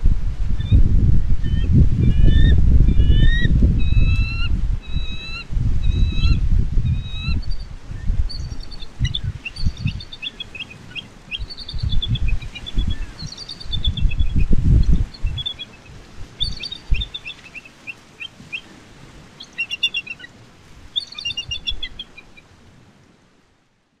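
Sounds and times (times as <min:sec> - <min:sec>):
eagles chittering: 0:01.6 - 0:07.6, 0:08.2 - 0:22.4.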